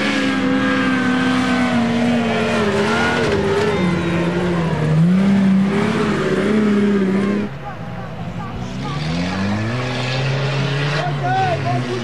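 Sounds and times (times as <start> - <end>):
race vehicle engine running hard: 0.0 - 12.0.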